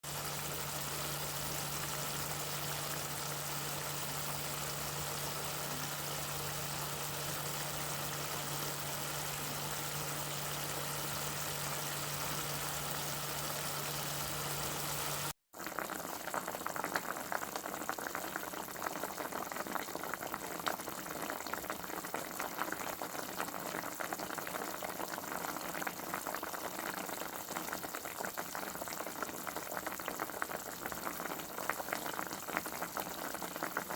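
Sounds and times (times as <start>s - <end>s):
crackling and bubbling: 0.0s - 33.9s
pot of liquid boiling: 0.0s - 33.9s.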